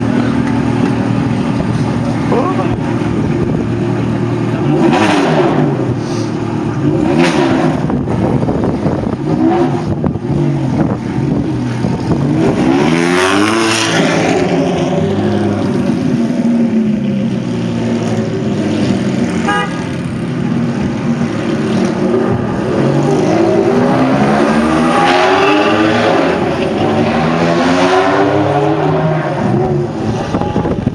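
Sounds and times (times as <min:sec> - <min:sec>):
car engines revving: 0:00.0 - 0:30.9.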